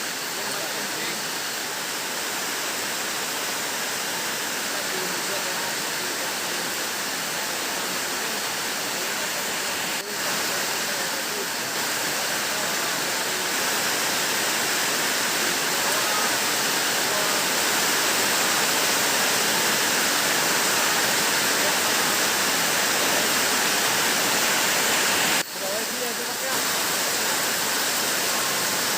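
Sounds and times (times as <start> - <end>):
heavy rain: 0.0 - 28.9.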